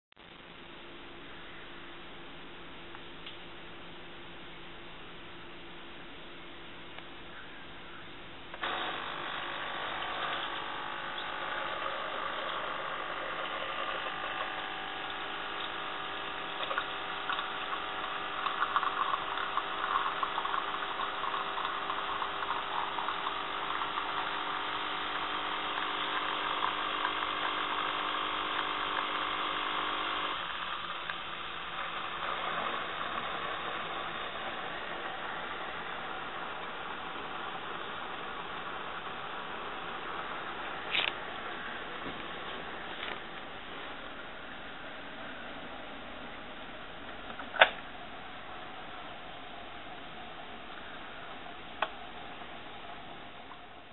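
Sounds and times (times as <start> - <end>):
coffee machine pump humming: 8.5 - 53.9
coffee streaming hiss: 8.5 - 53.9.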